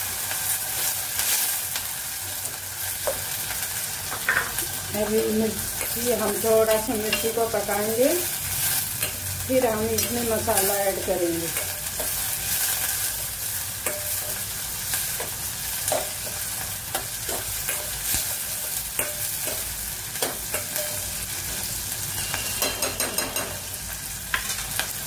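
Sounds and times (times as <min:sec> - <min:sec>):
chillies sizzling in hot oil: 0:00.0 - 0:25.0.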